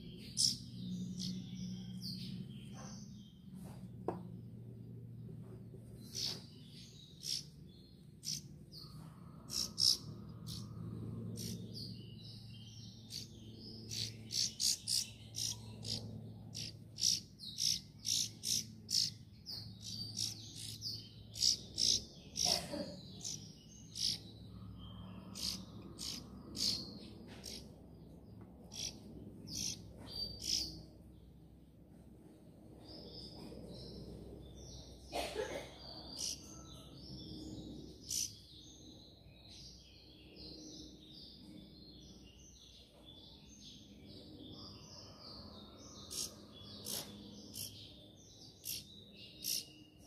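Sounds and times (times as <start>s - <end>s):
small bird chirping: 0.0s - 31.6s, 32.7s - 50.0s
low steady hum: 0.0s - 42.3s.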